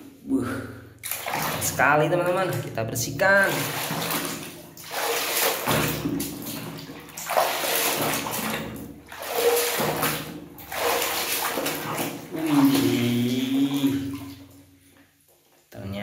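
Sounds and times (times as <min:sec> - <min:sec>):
soapy water sloshing in tub: 0:01.0 - 0:15.0.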